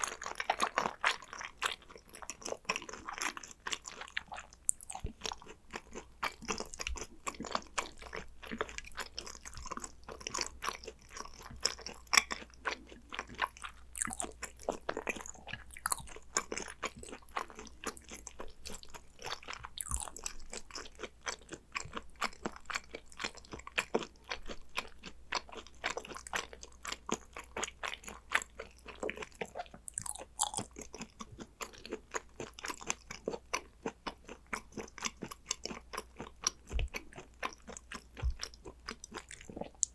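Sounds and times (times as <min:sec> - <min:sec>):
close chewing with crunches: 0:00.0 - 0:39.9.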